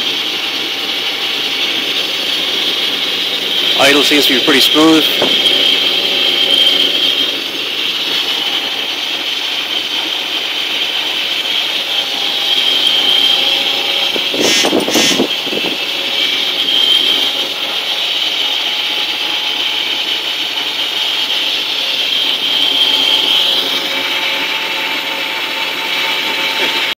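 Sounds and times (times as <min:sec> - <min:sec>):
car engine idling: 0:00.0 - 0:22.6.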